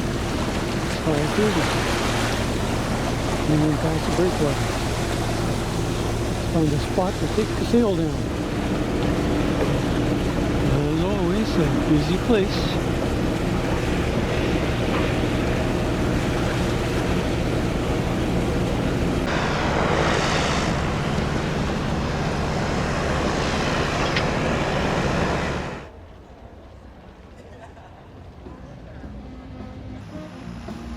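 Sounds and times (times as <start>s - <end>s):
boat diesel engine running: 0.0s - 25.9s
water rushing past boat: 0.0s - 26.0s
wind: 0.0s - 30.9s.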